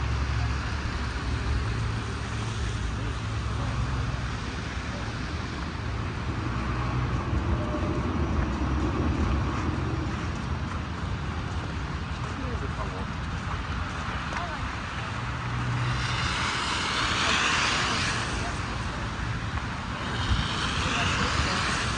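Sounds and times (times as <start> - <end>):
cars passing: 0.0 - 21.9
tyre and road noise: 0.0 - 21.9.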